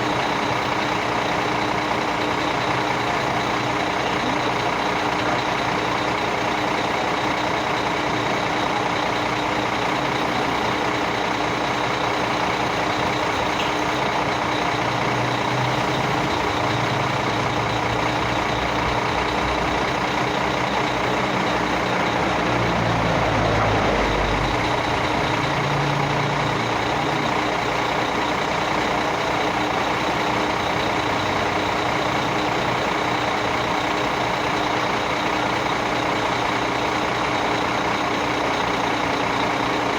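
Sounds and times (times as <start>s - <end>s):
diesel engine rumble: 0.0s - 39.9s.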